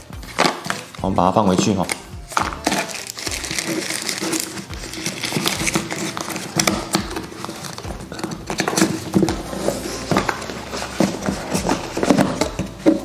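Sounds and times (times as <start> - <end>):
cardboard scraping on wooden table: 2.4 - 13.0.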